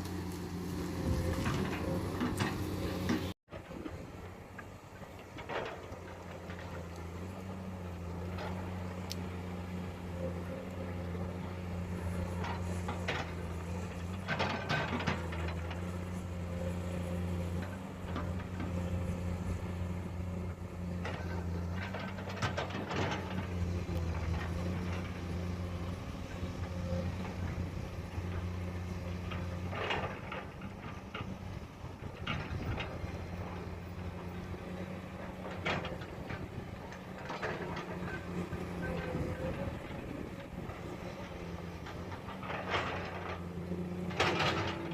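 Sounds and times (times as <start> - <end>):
heavy diesel machinery running: 0.0 - 44.9.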